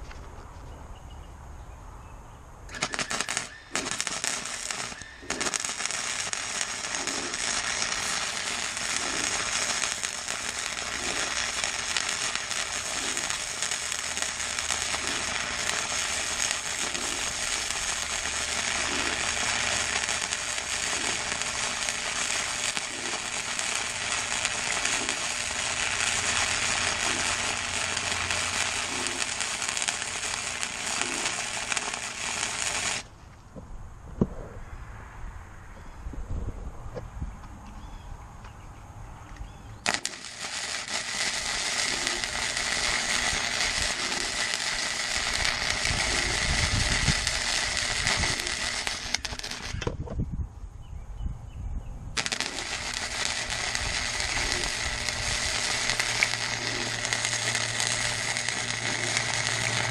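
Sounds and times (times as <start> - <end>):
arc welder crackling: 2.7 - 33.1, 39.3 - 50.0, 52.2 - 59.9.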